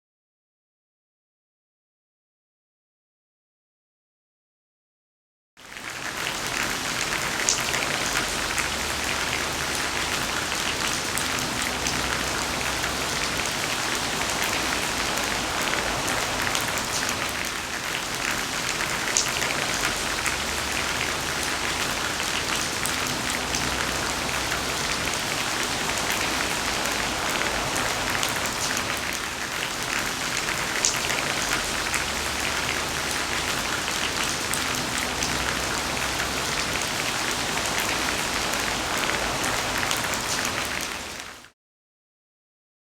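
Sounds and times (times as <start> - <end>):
steady rain falling: 5.6 - 41.6.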